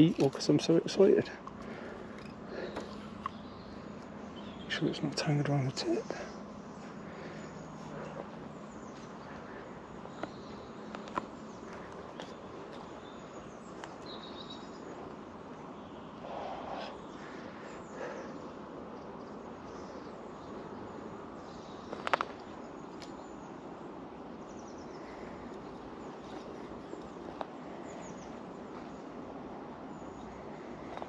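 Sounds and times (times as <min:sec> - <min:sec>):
faint bird chirps: 0:00.0 - 0:31.0
soft outdoor hiss: 0:00.0 - 0:31.0.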